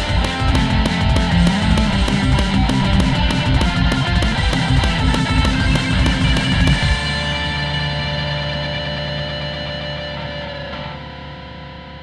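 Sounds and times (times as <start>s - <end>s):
rock music with distorted guitar: 0.0s - 12.0s.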